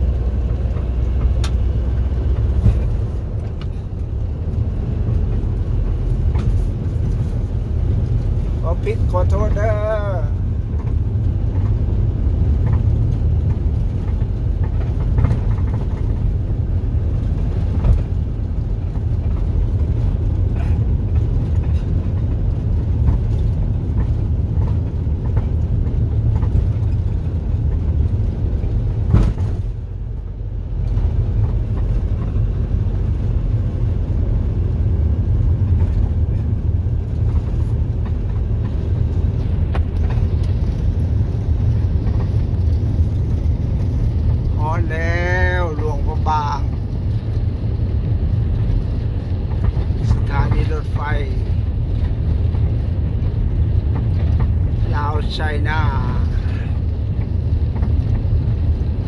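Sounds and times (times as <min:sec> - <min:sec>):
vehicle rumble: 0:00.0 - 0:59.0.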